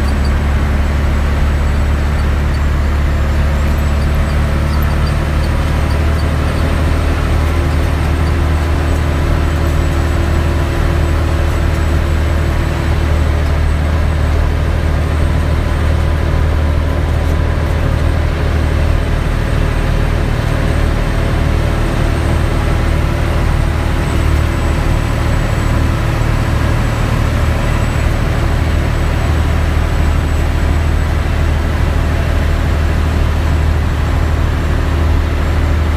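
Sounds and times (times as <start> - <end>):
diesel truck engine under load: 0.0 - 35.9.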